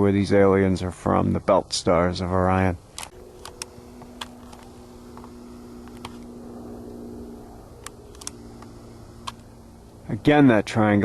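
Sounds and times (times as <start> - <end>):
distant propeller plane engine droning: 0.0 - 11.0.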